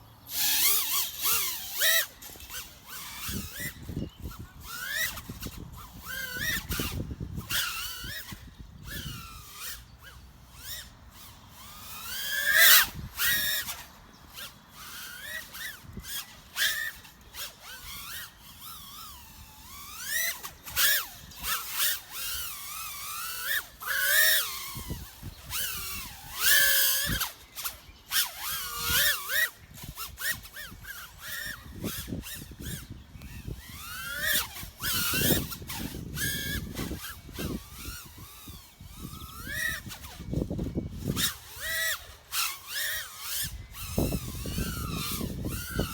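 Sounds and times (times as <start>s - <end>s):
quadcopter motors whining: 0.0s - 45.9s.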